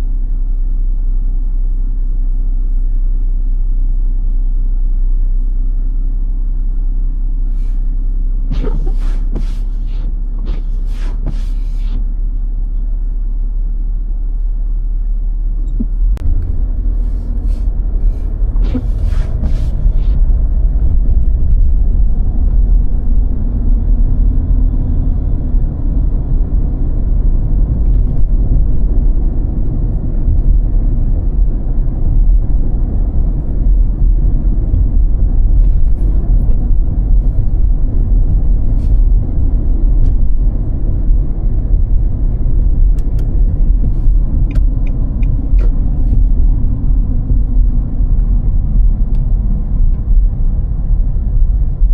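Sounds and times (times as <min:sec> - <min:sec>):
car driving on snowy road: 0:00.0 - 0:51.9.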